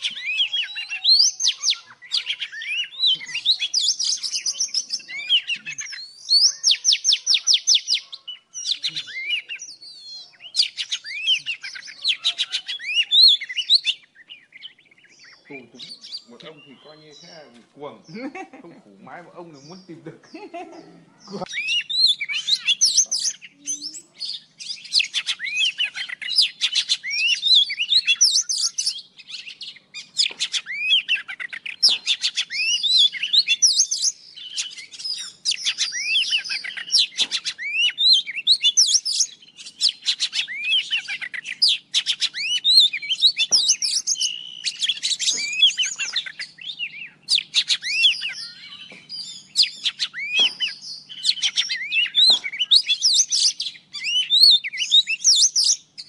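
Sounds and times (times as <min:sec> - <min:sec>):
bird singing whistled phrases: 0:00.0 - 0:17.5, 0:21.4 - 0:56.0.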